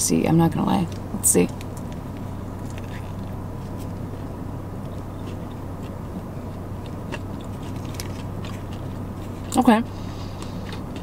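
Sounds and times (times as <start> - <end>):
low hum in car cabin: 0.0 - 11.0
chewing food: 0.9 - 11.0.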